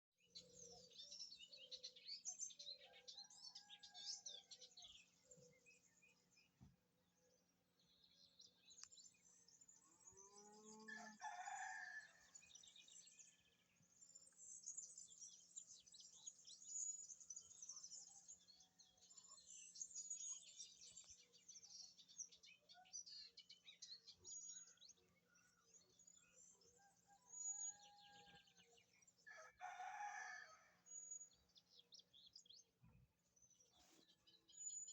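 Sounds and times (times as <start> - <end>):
faint songbirds chirping: 0.2 - 34.9.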